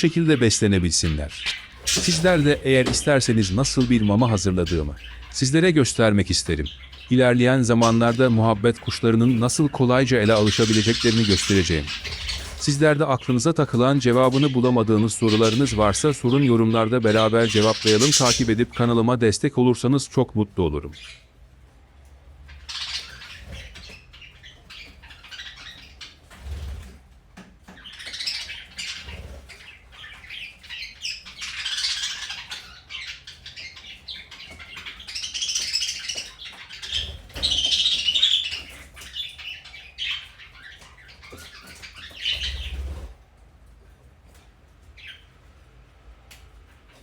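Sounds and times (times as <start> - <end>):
budgerigars chattering and chirping: 0.0 - 21.4, 22.2 - 27.0, 27.6 - 43.2, 44.3 - 45.7.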